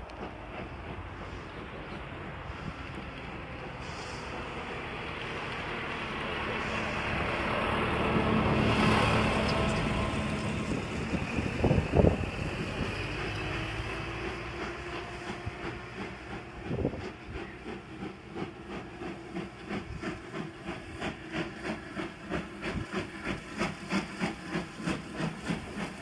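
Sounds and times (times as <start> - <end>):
distant steam locomotive rumble: 0.0 - 26.0.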